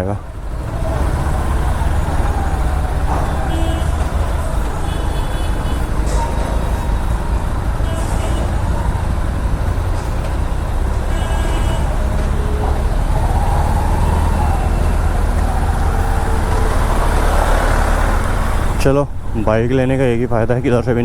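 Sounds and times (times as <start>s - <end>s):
motorcycle engine: 0.0s - 21.0s
road traffic: 0.0s - 21.0s.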